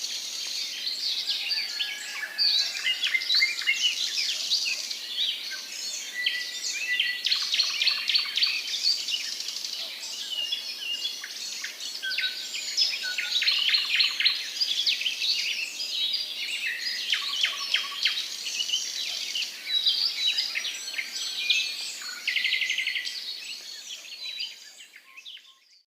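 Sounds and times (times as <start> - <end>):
songbirds chirping and trilling: 0.0 - 25.8.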